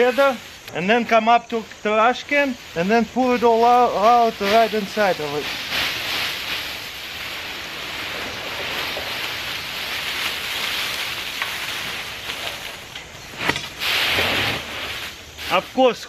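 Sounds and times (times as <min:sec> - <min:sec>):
dry leaves rustling into a bin: 0:00.0 - 0:16.0.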